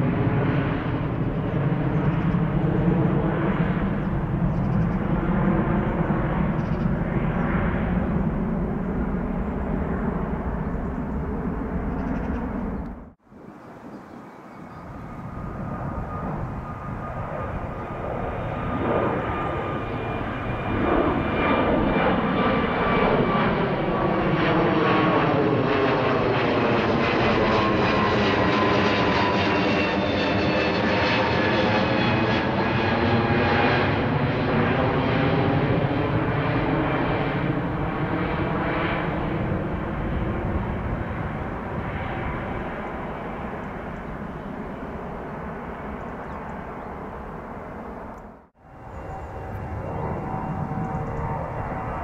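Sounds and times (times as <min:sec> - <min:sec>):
jet engine noise: 0:00.0 - 0:52.0.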